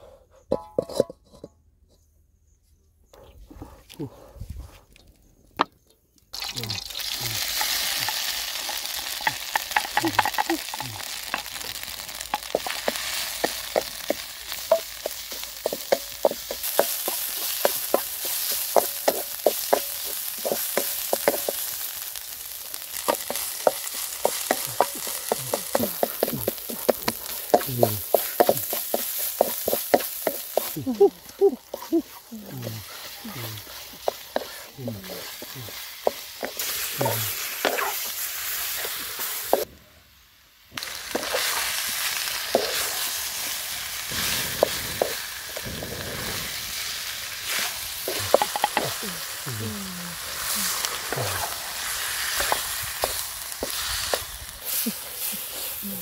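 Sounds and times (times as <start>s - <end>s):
spatula scraping and knocking wok: 0.4s - 2.0s, 6.4s - 39.7s, 40.9s - 49.4s, 50.2s - 55.8s
spice paste sizzling in oil: 6.3s - 56.0s.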